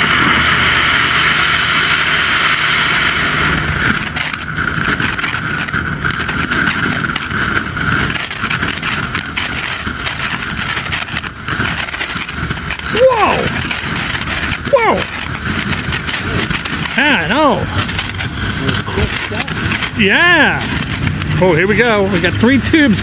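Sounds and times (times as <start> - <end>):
firework crackling: 0.0 - 23.0
firework fountain hissing: 0.0 - 23.0.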